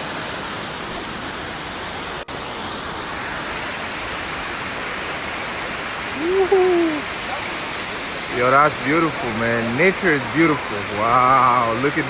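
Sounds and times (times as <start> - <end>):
waterfall pouring: 0.0 - 12.0.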